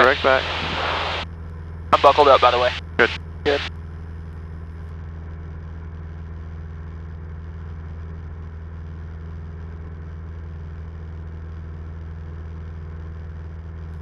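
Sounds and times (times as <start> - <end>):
airplane engine and propeller drone: 0.0 - 14.0.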